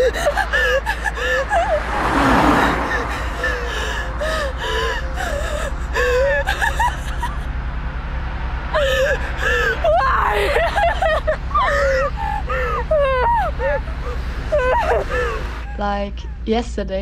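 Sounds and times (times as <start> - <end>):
woman sobbing: 0.0 - 7.5, 8.7 - 16.4
steady low hum: 0.0 - 17.0.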